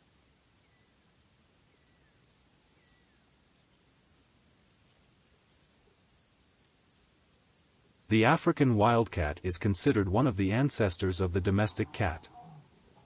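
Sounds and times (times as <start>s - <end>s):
faint cricket chirping: 0.0s - 13.0s.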